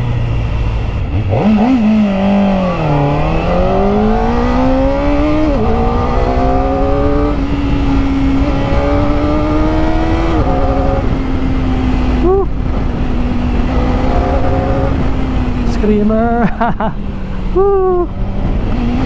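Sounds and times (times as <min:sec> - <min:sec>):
motorcycle engine accelerating hard: 0:00.0 - 0:19.0.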